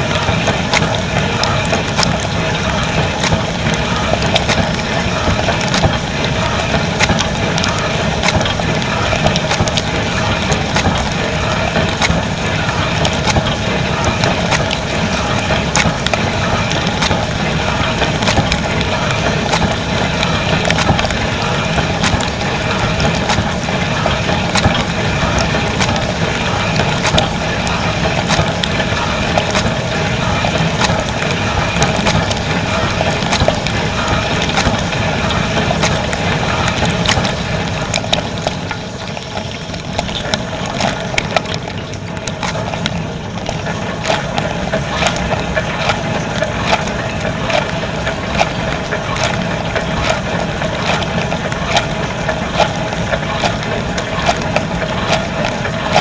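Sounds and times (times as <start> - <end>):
pump hum: 0.0 - 56.0.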